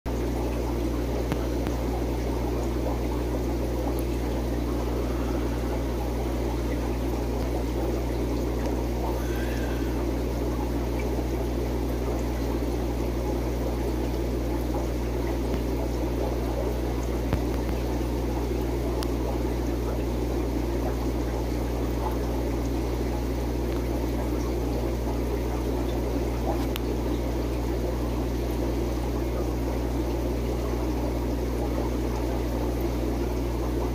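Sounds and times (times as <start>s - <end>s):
aquarium filter humming: 0.1s - 33.9s
trickling water: 0.1s - 33.9s.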